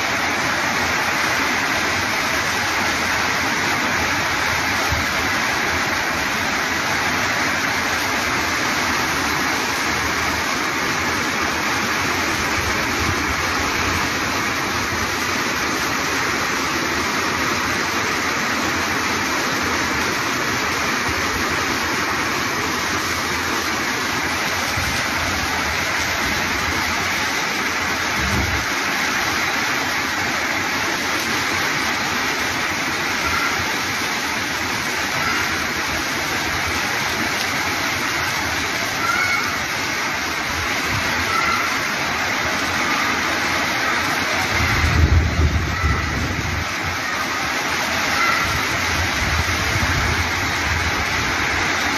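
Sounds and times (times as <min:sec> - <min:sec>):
torrential rain on roofs: 0:00.0 - 0:51.9.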